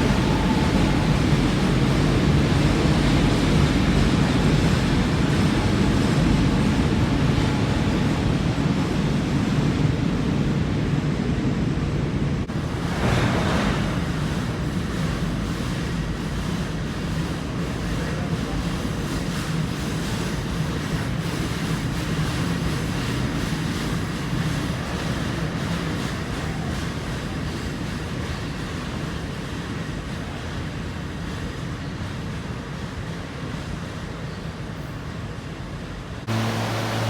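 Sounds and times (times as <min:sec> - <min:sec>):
train engine hum: 0:00.0 - 0:37.0.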